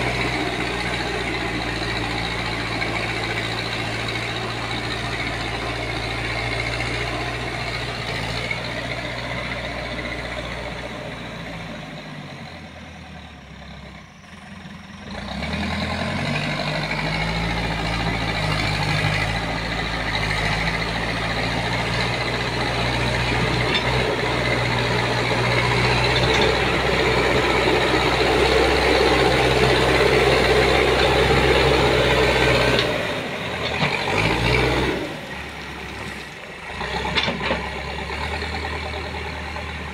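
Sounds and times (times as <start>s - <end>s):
diesel engine working: 0.0s - 39.9s.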